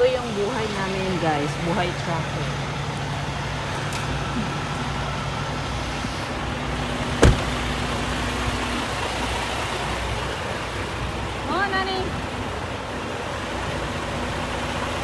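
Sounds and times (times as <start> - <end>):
truck engines idling: 0.0 - 15.0.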